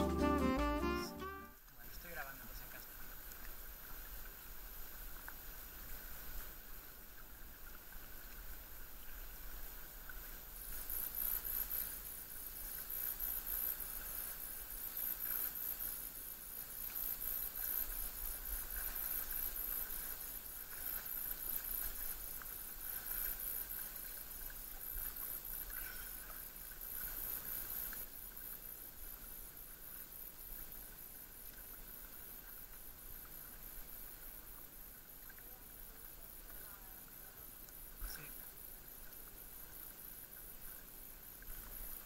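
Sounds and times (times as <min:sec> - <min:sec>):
steady high-pitched hiss: 0:00.0 - 0:42.0
kayak paddle swishing through water: 0:02.8 - 0:42.0.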